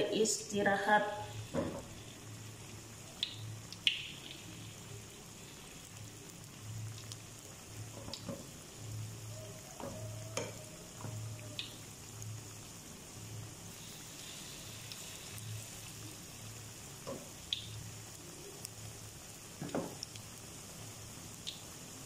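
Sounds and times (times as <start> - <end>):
fritters sizzling in hot oil: 0.0 - 22.0.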